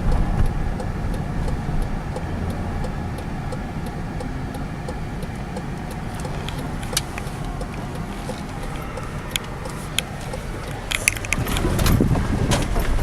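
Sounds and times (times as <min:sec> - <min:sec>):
faint light ticking: 0:00.0 - 0:12.1
car road and engine rumble: 0:00.0 - 0:13.0.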